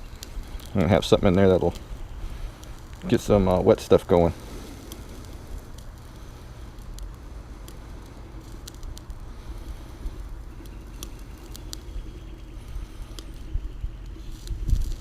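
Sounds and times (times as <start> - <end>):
low steady rumble: 0.0 - 15.0
twigs crackling and popping in fire: 0.0 - 15.0.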